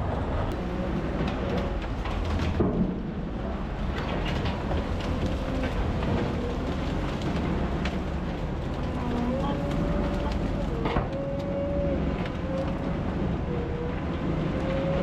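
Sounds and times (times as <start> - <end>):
diesel machinery rumbling: 0.0 - 15.0
machinery knocks and clatters: 0.5 - 13.4.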